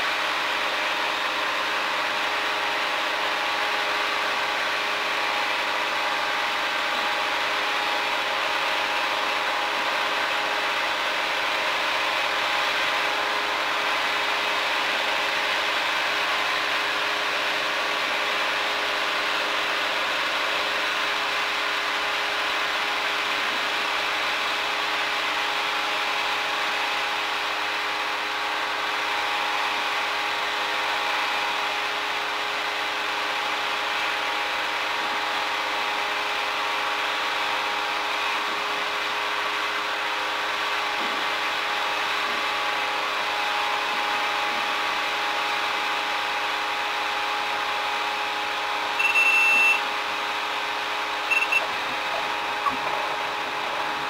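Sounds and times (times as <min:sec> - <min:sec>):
airplane engine and propeller drone: 0:00.0 - 0:54.0.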